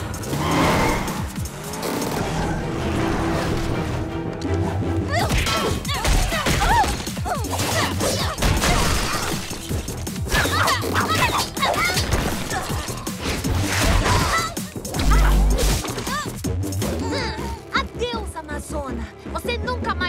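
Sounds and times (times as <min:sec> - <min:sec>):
dramatic action music: 0:00.0 - 0:20.0.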